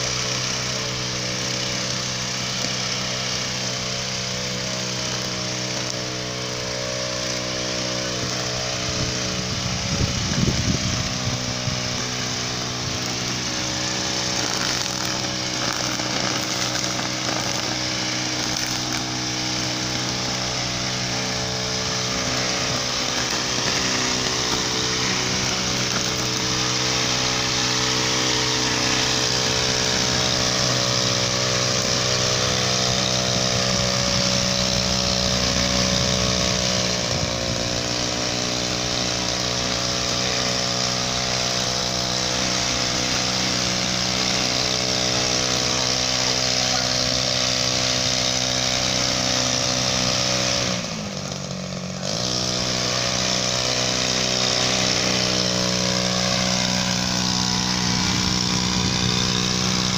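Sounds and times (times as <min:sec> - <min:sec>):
brush cutter engine running: 0:00.0 - 0:59.9
trimmer head scrubbing wet paving: 0:00.0 - 0:59.9.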